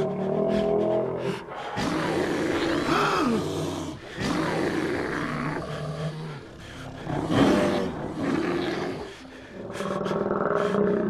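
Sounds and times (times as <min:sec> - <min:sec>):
monster roaring and growling: 0:00.0 - 0:11.0.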